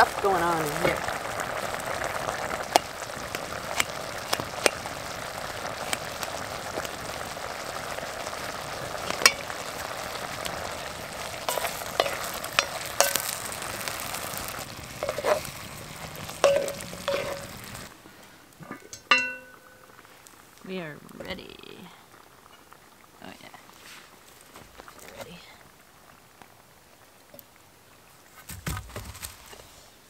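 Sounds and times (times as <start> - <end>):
burning wood crackling: 0.0 - 30.0
stew bubbling and sizzling: 0.0 - 30.0.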